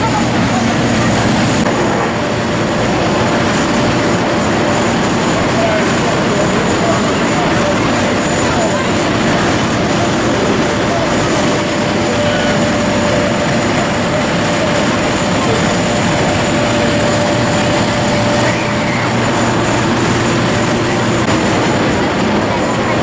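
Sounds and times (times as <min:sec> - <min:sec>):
aircraft engine rush: 0:00.0 - 0:23.0
faint steady whine: 0:00.0 - 0:23.0.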